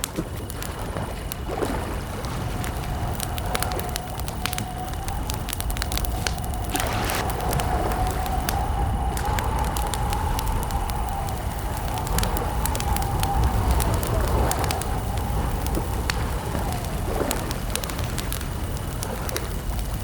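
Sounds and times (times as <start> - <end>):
campfire crackling and popping: 0.0 - 20.0
low rumble: 0.5 - 19.1.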